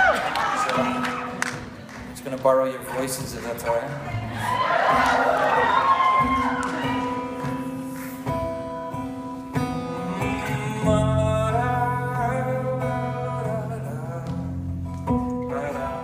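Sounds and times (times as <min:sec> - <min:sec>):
acoustic guitar notes: 0:00.0 - 0:16.0.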